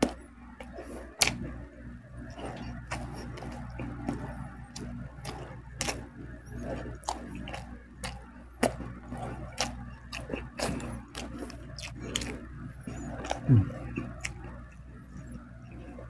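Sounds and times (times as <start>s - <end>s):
person chewing with wet smacks: 0.0s - 16.0s.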